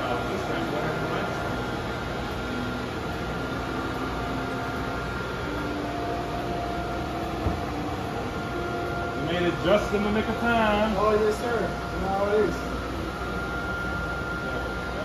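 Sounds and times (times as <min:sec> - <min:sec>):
faint steady tones: 0:00.0 - 0:15.0
kitchen equipment fans humming: 0:00.0 - 0:15.0.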